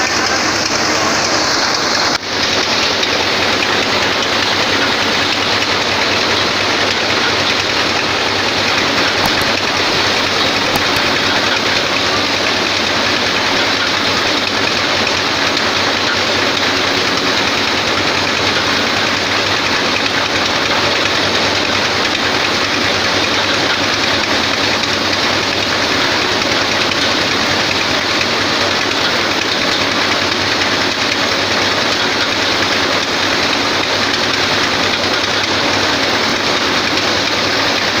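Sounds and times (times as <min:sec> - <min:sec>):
thresher machine rattling: 0:00.0 - 0:38.0.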